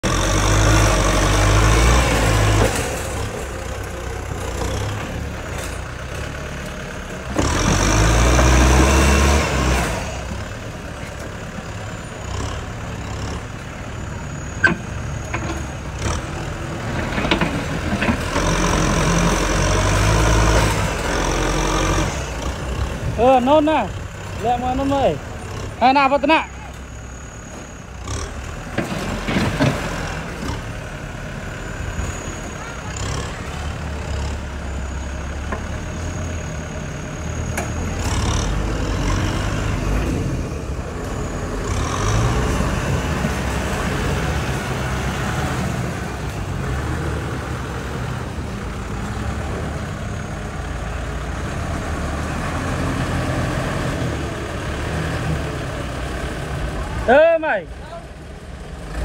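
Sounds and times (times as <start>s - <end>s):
diesel engines rumbling: 0.0s - 59.0s.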